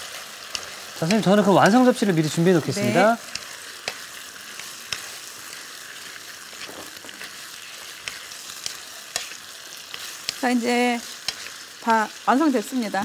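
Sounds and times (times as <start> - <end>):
food sizzling in a frying pan: 0.0 - 13.0
spatulas stirring: 0.0 - 13.0.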